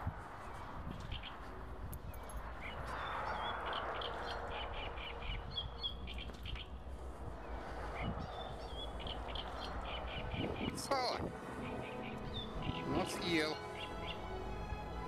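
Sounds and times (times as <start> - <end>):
wind rumble on microphone: 0.0 - 15.0
birds chirping: 0.4 - 15.0.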